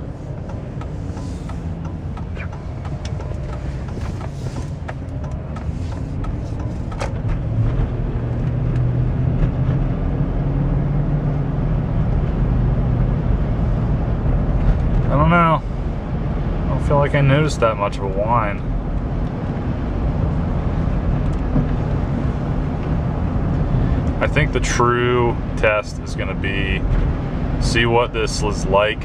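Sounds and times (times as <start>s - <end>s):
power steering whine: 0.0s - 29.0s
truck engine accelerating: 0.0s - 29.0s.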